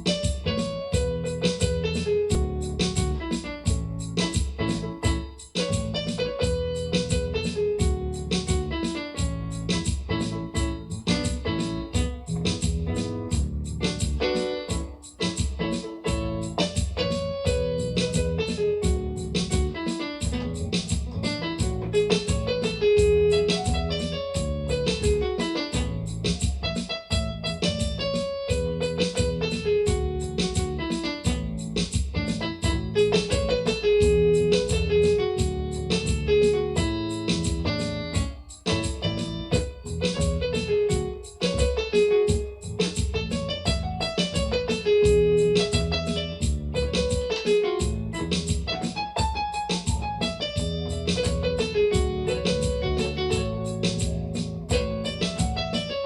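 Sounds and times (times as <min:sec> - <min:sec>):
electronic keyboard melody: 0:00.0 - 0:56.0.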